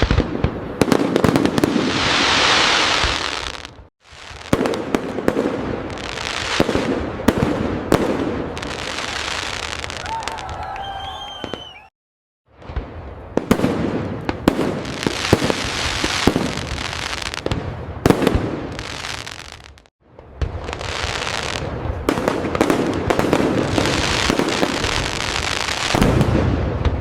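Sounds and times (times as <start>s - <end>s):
fireworks crackling and banging: 0.0s - 11.8s, 12.5s - 27.0s.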